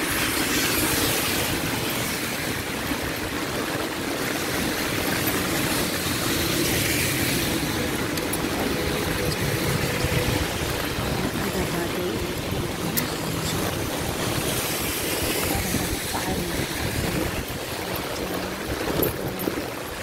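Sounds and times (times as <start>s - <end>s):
heavy rain on wet street: 0.0s - 20.0s
strong wind buffeting microphone: 0.0s - 20.0s.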